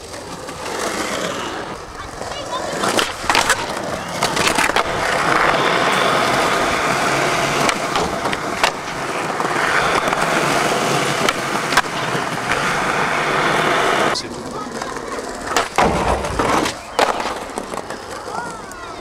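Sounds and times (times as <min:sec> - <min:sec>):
skateboard clacking on ground: 0:00.0 - 0:19.0
skateboard wheels rolling on concrete: 0:00.0 - 0:19.0.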